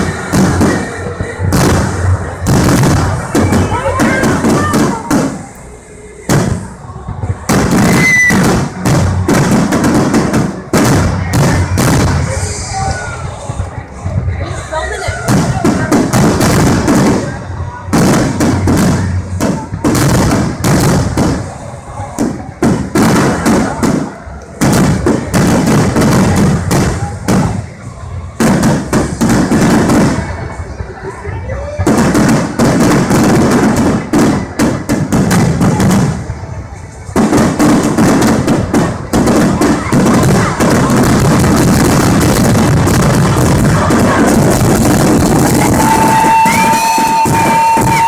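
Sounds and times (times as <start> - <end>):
fireworks banging and crackling: 0.0 - 48.0.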